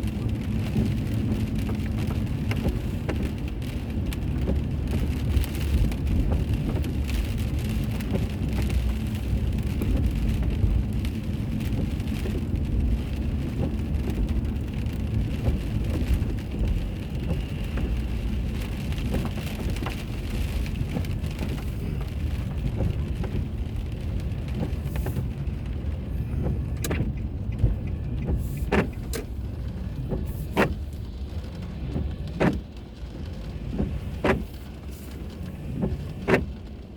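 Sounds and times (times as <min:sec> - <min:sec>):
car road and engine rumble: 0:00.0 - 0:36.9.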